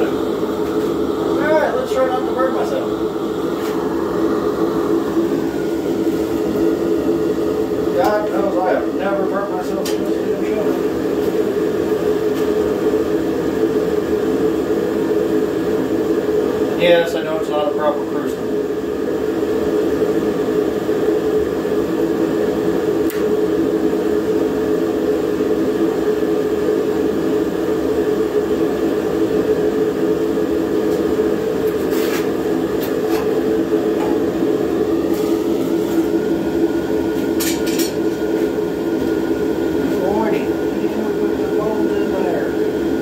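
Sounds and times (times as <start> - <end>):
gas flame hum and rush: 0.0 - 43.0.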